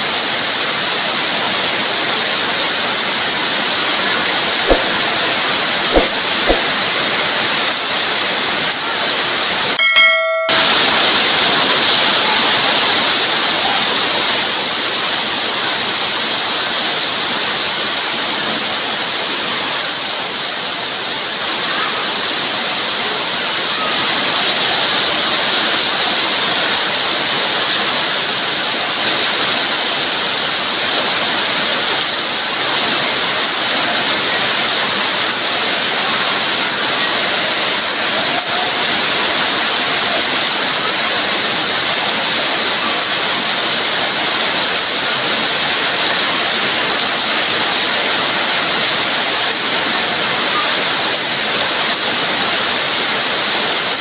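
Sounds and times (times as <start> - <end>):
heavy rain on wet ground: 0.0 - 54.0.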